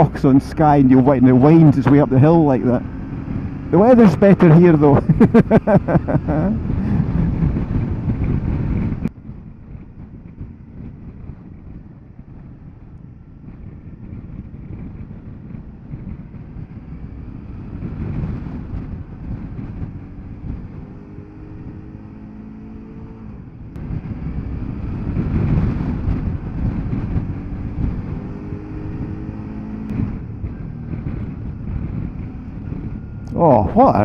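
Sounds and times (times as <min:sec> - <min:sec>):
motorcycle engine: 0:00.0 - 0:34.0
wind on microphone: 0:00.9 - 0:34.0.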